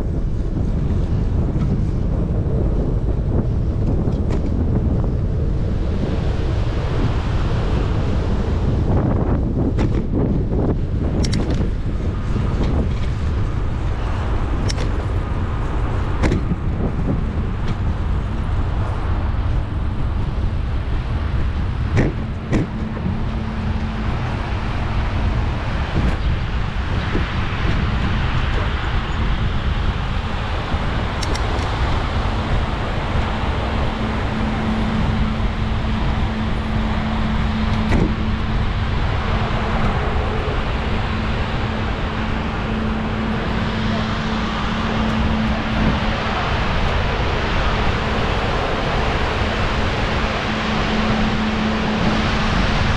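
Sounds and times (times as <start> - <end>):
engine hum: 0.0 - 52.9
motor vehicles running: 0.0 - 52.9
wind noise on microphone: 0.0 - 52.9.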